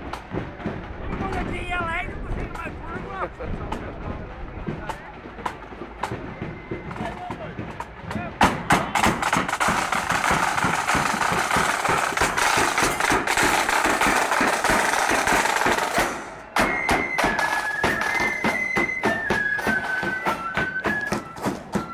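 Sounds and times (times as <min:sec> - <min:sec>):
snare and bass drums beating: 0:00.0 - 0:21.9
flute band melody: 0:03.7 - 0:21.9.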